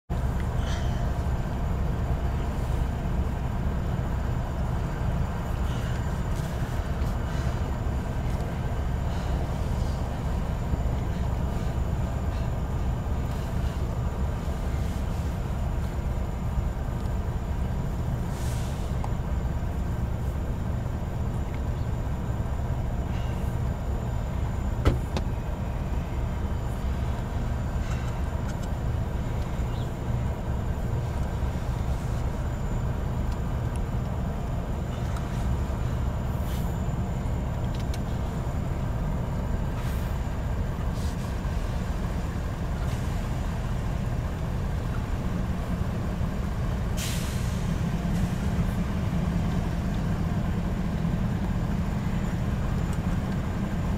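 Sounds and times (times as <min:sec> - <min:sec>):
faint steady whine: 0:00.1 - 0:53.9
locomotive engines idling: 0:00.1 - 0:53.9.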